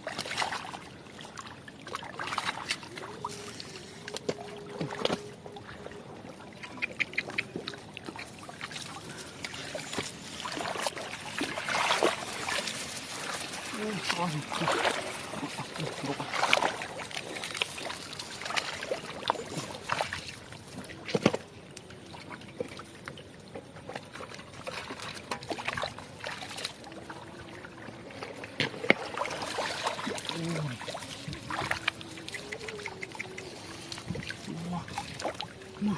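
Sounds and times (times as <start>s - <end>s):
shallow water splashing: 0.0s - 35.9s.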